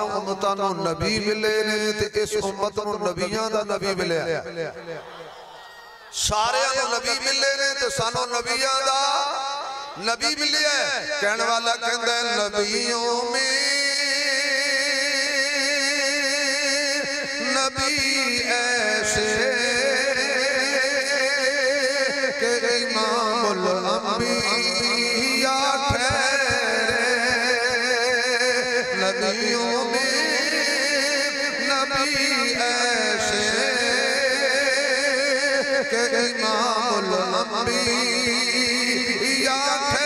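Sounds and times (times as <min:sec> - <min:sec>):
man chanting through microphone: 0:00.0 - 0:05.0, 0:06.1 - 0:40.0.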